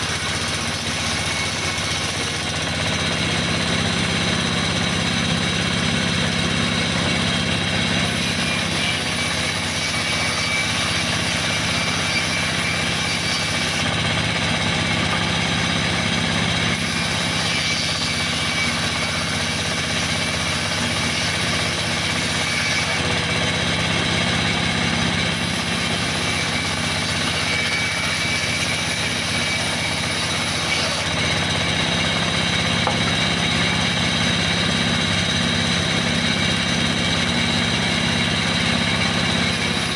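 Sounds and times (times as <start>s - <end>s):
band saw sawing log: 0.0s - 39.9s.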